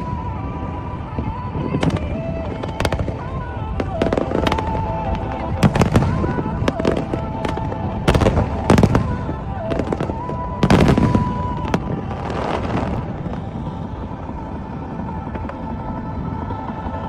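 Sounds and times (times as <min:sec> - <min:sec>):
fireworks bursting: 0:00.0 - 0:17.0
steady murmur: 0:00.0 - 0:17.0.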